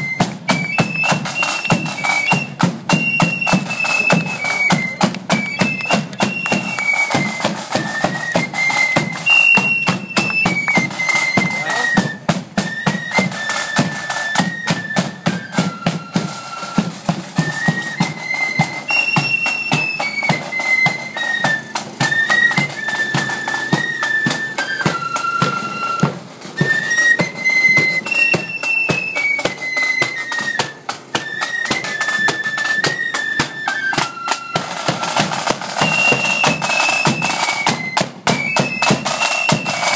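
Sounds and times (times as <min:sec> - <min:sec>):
flutes playing a march: 0:00.0 - 0:39.9
side drum strokes: 0:00.0 - 0:39.9.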